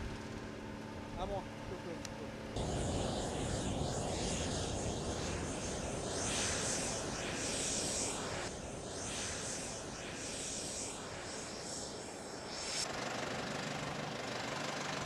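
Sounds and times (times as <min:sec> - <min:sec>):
jet engine rushing with high hiss: 0:00.0 - 0:15.0.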